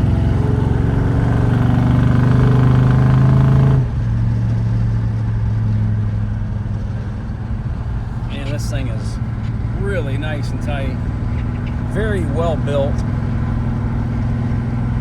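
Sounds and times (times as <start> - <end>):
car engine under throttle: 0.0 - 15.0.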